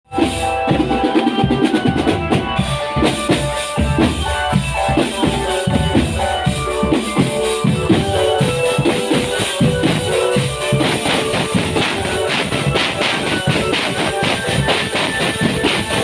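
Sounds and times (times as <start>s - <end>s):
band instruments melody: 0.1s - 16.0s
marching band drums: 0.1s - 16.0s.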